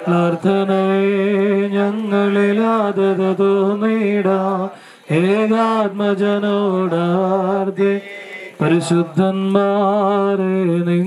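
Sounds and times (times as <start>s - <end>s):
people chanting prayer in unison: 0.0s - 11.0s.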